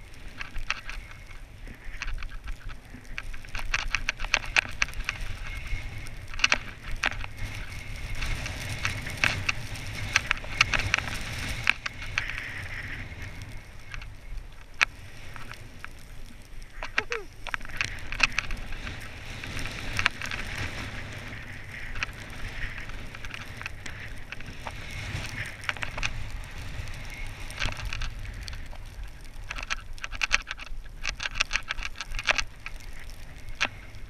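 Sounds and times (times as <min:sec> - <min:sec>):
skis scraping over snow: 0:00.0 - 0:34.0
wind rumble on microphone: 0:00.0 - 0:34.0.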